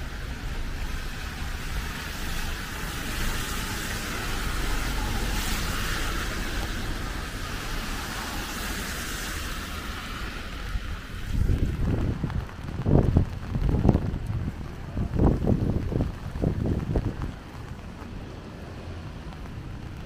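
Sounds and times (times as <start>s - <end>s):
heavy rain: 0.0s - 20.0s
low traffic rumble: 0.0s - 20.0s
tyres hissing on wet road: 0.0s - 20.0s.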